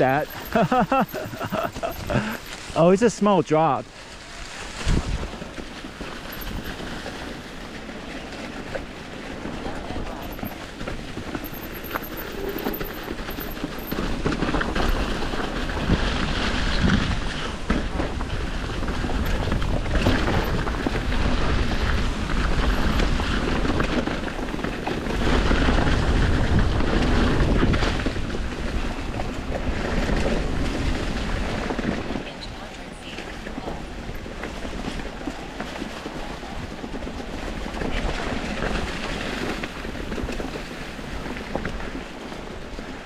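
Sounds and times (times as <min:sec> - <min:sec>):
wind rumbling on microphone: 0:00.0 - 0:03.0, 0:03.8 - 0:43.0
bike tyres rolling over dirt: 0:00.0 - 0:43.0
bike knocks and rattles: 0:05.2 - 0:32.1, 0:33.2 - 0:42.9.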